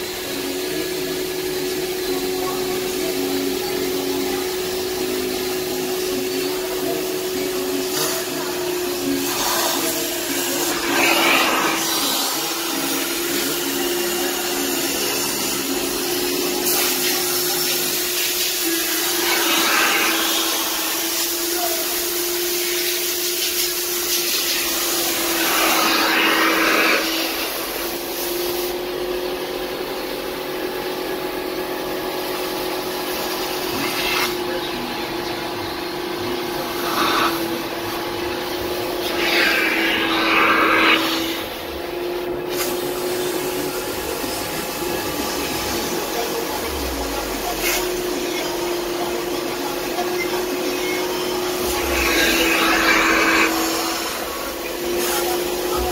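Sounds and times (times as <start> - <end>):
vacuum motor humming and hissing: 0.0 - 55.9.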